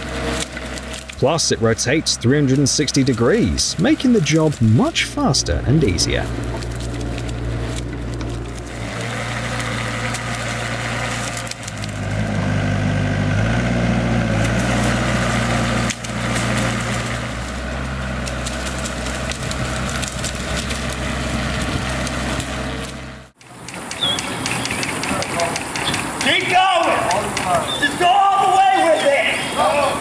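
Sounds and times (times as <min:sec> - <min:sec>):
wood cracking and splintering: 0:00.0 - 0:29.0
heavy machine engine running: 0:00.0 - 0:30.0.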